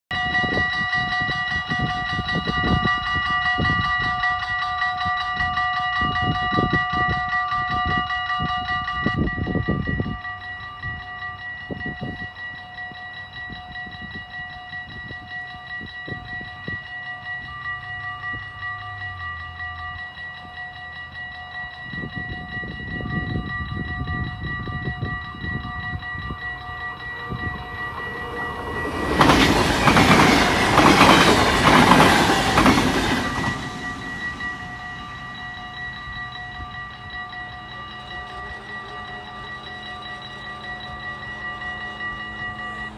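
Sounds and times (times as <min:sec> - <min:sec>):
electric train passing: 0:00.1 - 0:42.9
level crossing bells ringing: 0:00.1 - 0:42.9.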